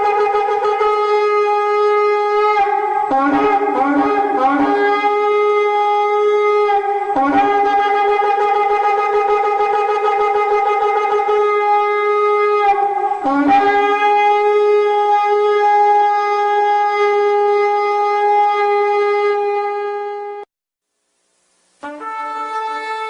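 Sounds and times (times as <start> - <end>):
horn blasts: 0.0 - 20.5, 21.8 - 23.0.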